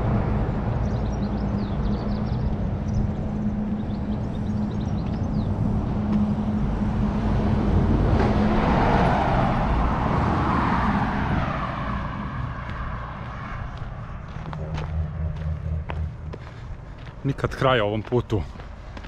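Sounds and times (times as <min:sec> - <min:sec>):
vehicle passing on road: 0:00.0 - 0:17.6.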